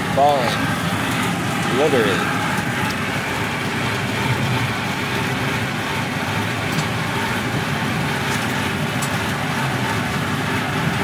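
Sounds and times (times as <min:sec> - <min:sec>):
amusement park train running: 0:00.0 - 0:11.0.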